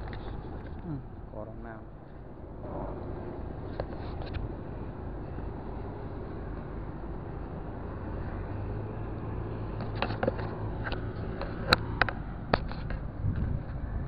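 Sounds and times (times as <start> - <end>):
low hum: 0.0 - 14.0
low outdoor rumble: 0.0 - 14.0.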